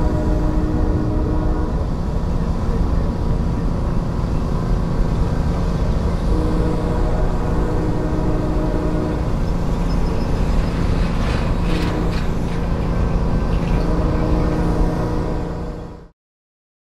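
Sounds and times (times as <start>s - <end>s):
diesel locomotive engine drone: 0.0s - 16.1s
train clanks and squeaks: 1.6s - 16.0s.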